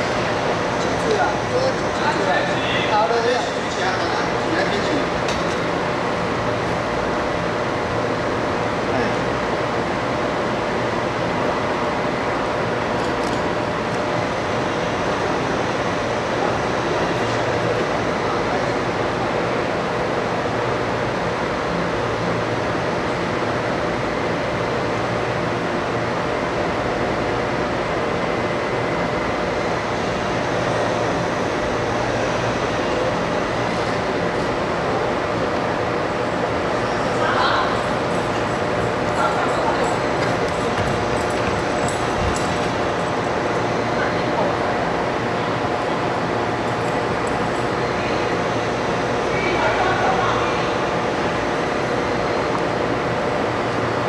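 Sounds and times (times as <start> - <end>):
ventilation machinery humming: 0.0 - 54.0.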